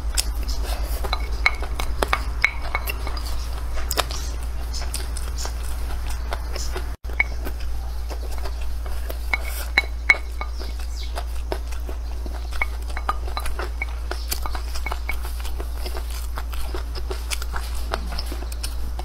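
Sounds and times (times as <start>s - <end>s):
eating sounds: 0.0s - 19.0s
steady low hum: 0.0s - 19.0s
spoon scraping a ceramic plate: 0.5s - 7.4s, 8.0s - 16.8s.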